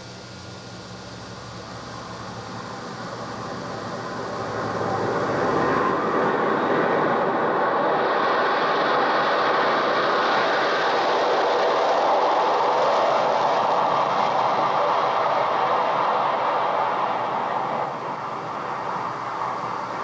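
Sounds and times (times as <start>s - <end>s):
loud rushing noise: 3.4s - 20.0s.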